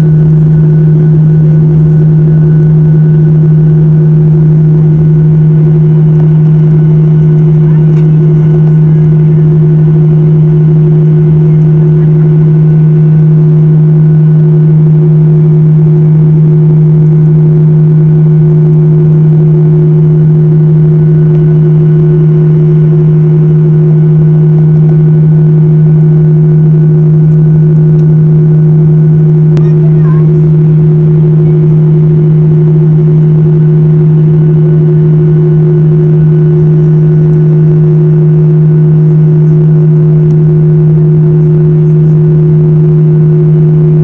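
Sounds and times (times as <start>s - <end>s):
airliner cabin drone: 0.0s - 44.0s.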